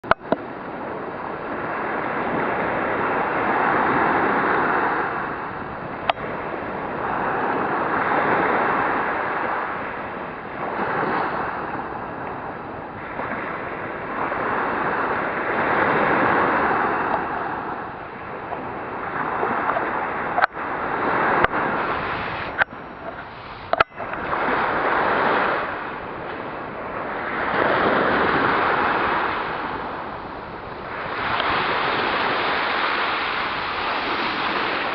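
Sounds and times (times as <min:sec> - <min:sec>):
sea waves washing in: 0:00.0 - 0:34.9.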